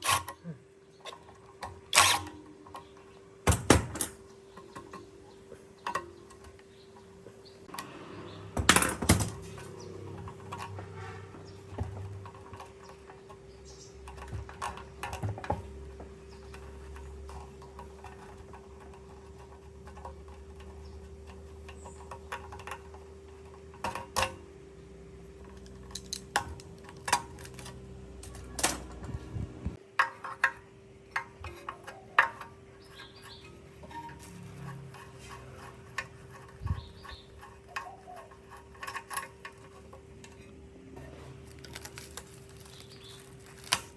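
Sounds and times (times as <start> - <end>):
metal parts clicking and knocking: 0.0 - 0.4, 1.0 - 24.4, 25.3 - 43.9.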